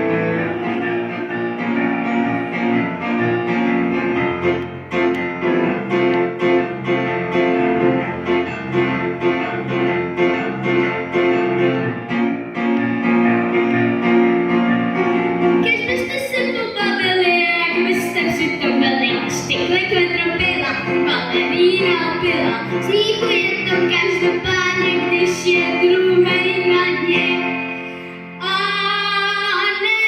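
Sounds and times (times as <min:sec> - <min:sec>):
piano accompaniment: 0:00.0 - 0:30.0.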